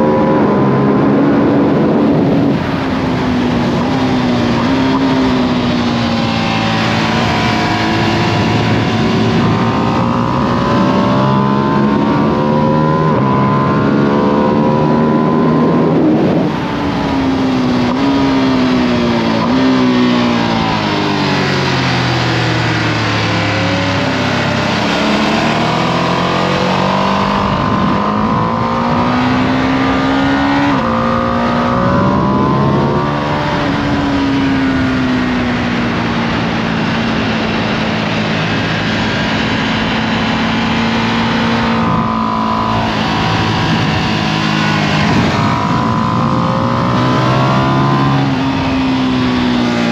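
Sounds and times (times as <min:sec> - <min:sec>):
motorcycle engine revving through gears: 0:00.0 - 0:49.9
wind rush: 0:00.0 - 0:49.9.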